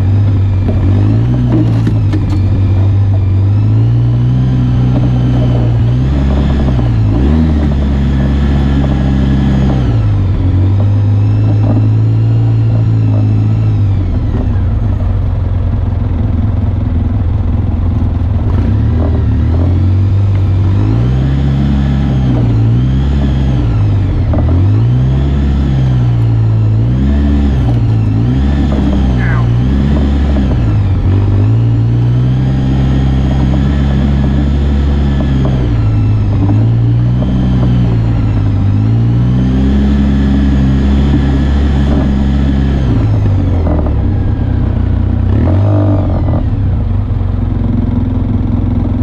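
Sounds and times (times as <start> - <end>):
off-road vehicle engine revving: 0.0 - 49.0.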